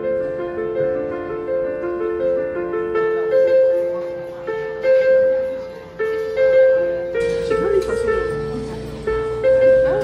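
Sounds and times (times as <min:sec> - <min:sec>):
slow solo piano melody: 0:00.0 - 0:10.0.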